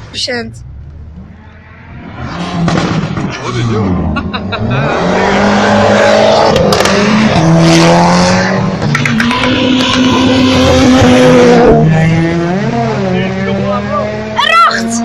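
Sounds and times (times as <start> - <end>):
loud car engine: 0.0 - 15.0
car engine revving past: 0.6 - 15.0.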